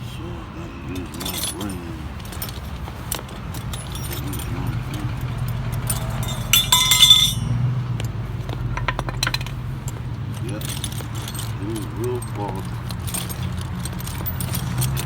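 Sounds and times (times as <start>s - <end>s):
low vehicle rumble: 0.0s - 15.0s
keys jingling: 0.8s - 15.0s.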